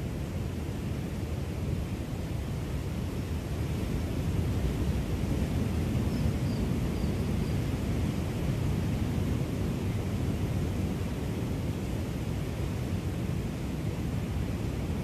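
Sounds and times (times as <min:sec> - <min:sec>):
surf washing on shore: 0:00.0 - 0:15.0.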